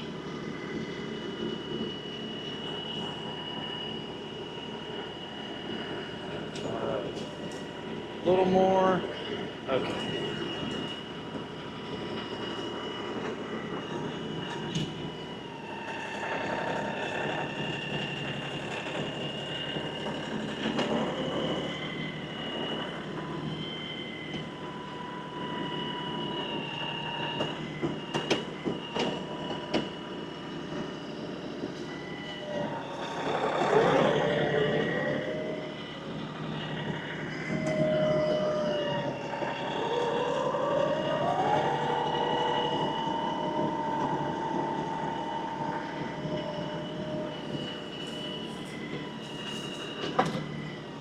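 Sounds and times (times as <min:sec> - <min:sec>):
tractor engine whine: 0:00.0 - 0:51.0.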